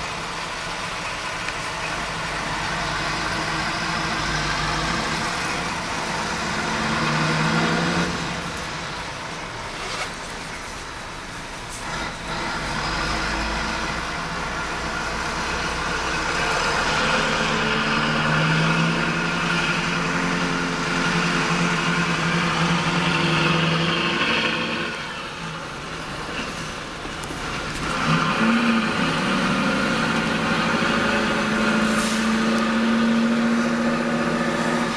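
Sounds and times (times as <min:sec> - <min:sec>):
diesel truck engine running: 0:00.0 - 0:34.9.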